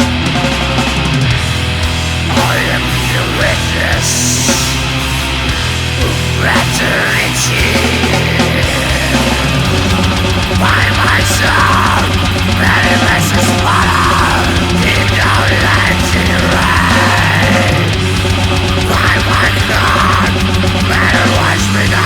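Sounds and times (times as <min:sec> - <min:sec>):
guitar melody: 0:00.0 - 0:19.0
heavy metal band playing: 0:00.0 - 0:22.0.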